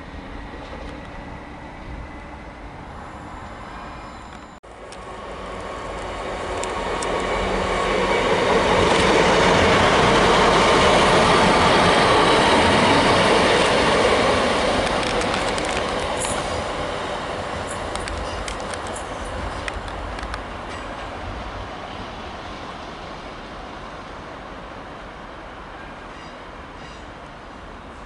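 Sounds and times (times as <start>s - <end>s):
passenger train passing: 0.0s - 28.0s.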